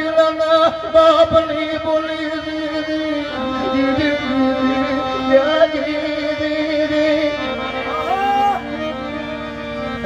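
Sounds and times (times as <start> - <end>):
folk instrumental melody: 0.8 - 10.0.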